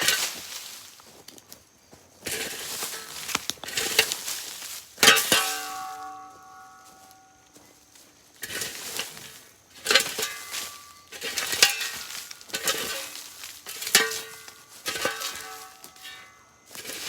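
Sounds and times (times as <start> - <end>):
shovel scraping dry leaves: 0.0 - 1.2, 2.2 - 7.6, 8.4 - 17.0.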